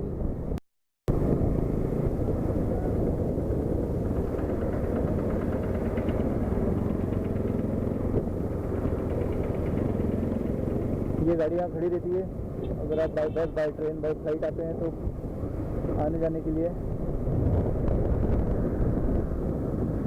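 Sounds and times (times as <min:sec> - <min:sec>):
road noise: 0:00.0 - 0:20.0
motorcycle engine drone: 0:01.1 - 0:20.0.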